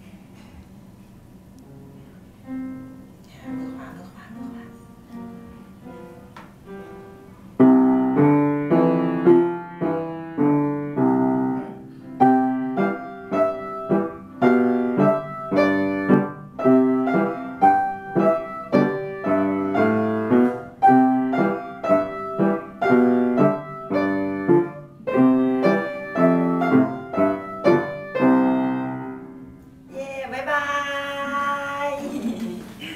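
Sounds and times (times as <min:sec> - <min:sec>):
piano played four hands: 0:01.6 - 0:29.8.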